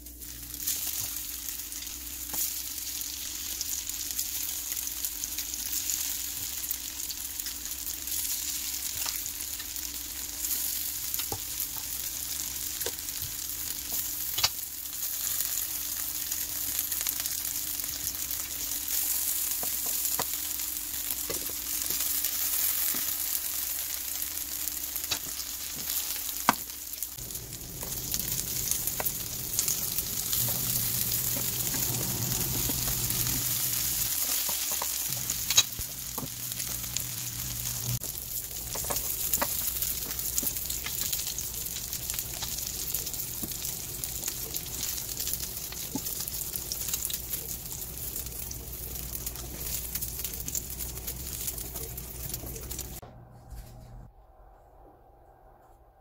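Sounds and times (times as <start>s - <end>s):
patties sizzling in oil: 0.0s - 53.0s.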